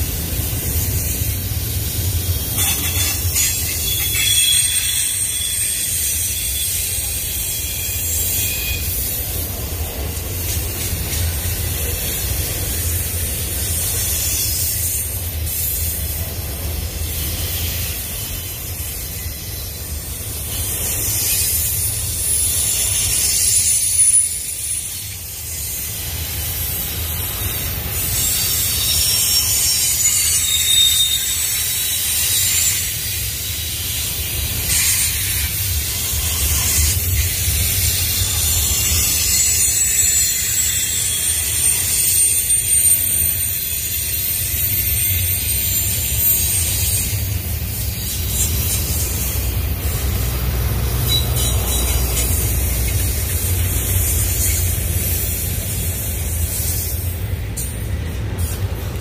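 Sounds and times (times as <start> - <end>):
train wheels rumbling on rail: 0.0 - 59.0
faint high-pitched wheel squeal: 2.2 - 9.4, 17.2 - 57.8.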